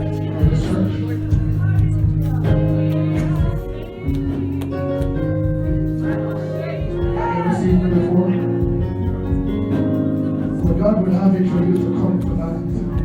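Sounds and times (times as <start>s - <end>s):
held keyboard chords: 0.0s - 13.0s.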